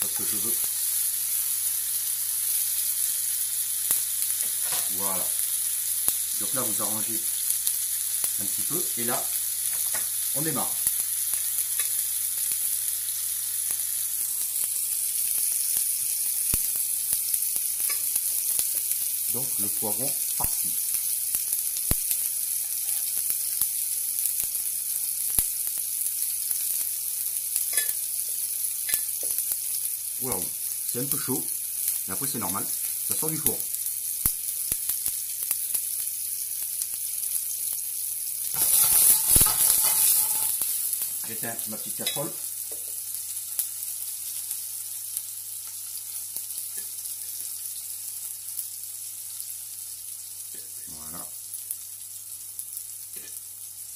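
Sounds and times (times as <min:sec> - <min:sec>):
tomatoes sizzling in a pan: 0:00.0 - 0:53.9.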